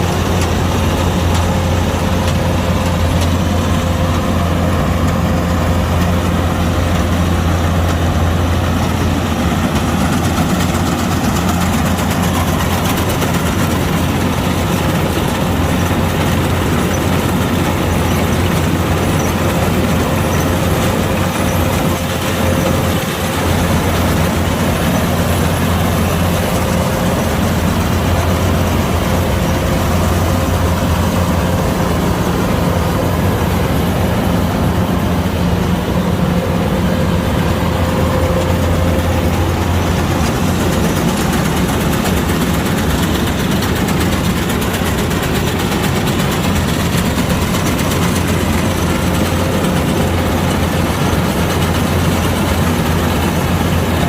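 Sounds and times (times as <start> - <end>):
combine harvester diesel drone: 0.0 - 54.0.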